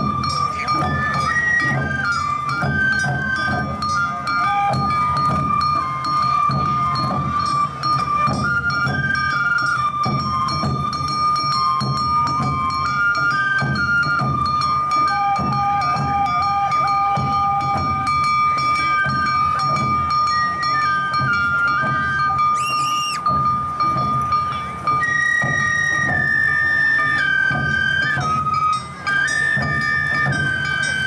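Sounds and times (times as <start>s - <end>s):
low drum beats: 0.0s - 28.8s.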